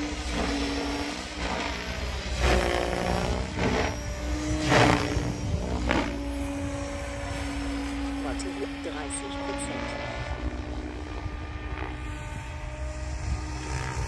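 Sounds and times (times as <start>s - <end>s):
rc helicopter rotor whine: 0.0s - 14.0s
rotor blade whoosh: 0.0s - 14.0s.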